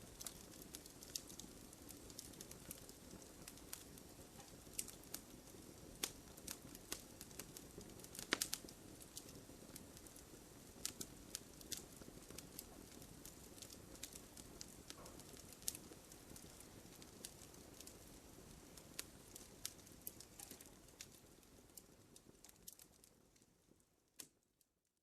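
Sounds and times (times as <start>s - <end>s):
wood fire rumble: 0.0s - 23.8s
burning wood crackling: 0.0s - 24.4s.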